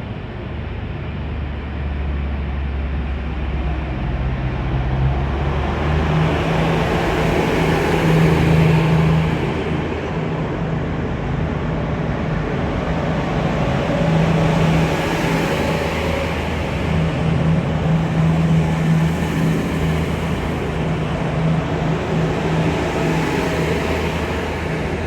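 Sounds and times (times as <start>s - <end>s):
train diesel engines humming: 0.2s - 25.0s.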